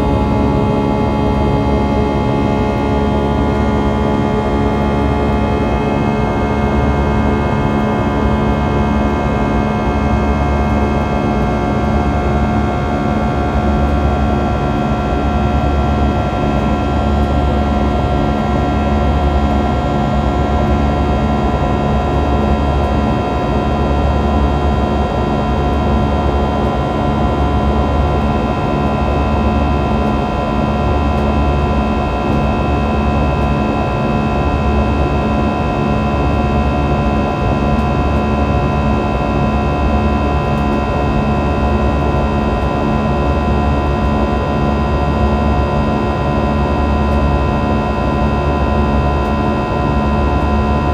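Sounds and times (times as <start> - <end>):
jet engine drone in cabin: 0.0 - 50.9.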